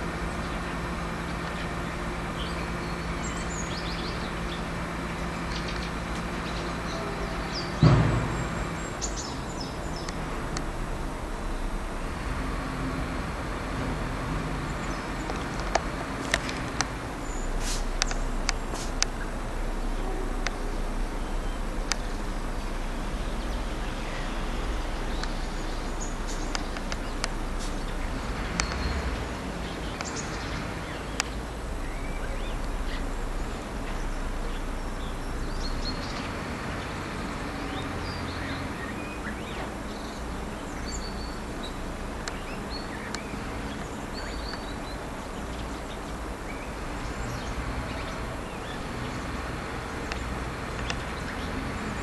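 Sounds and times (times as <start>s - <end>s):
background rumble: 0.0s - 52.0s.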